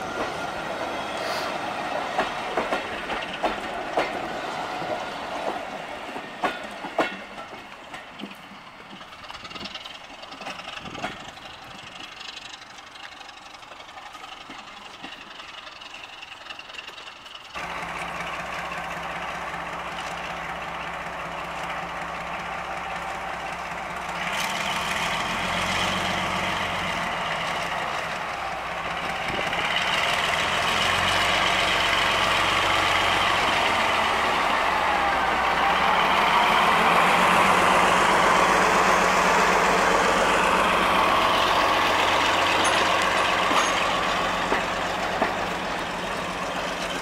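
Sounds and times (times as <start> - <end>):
diesel locomotive engines running: 0.0 - 47.0
train coaches rolling on track: 0.0 - 47.0.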